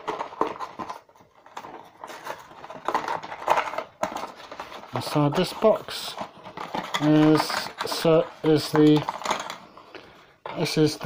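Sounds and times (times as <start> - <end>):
cardboard box rustling: 0.0 - 9.5.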